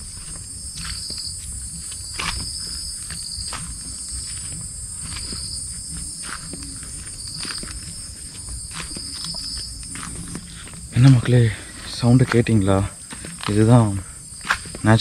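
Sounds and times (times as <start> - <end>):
footsteps on dirt trail: 0.0 - 15.0
insect trill: 0.0 - 15.0
insects droning: 0.0 - 15.0.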